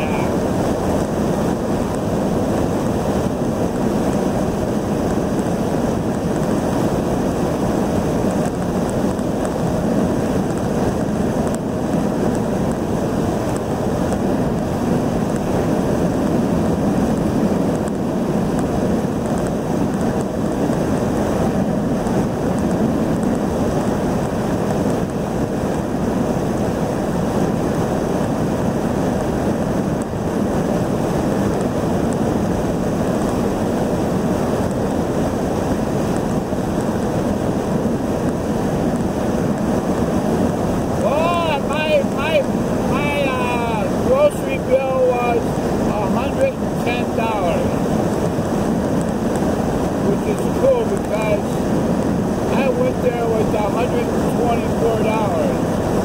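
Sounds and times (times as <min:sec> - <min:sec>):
car road engine and wind noise: 0:00.0 - 0:56.0.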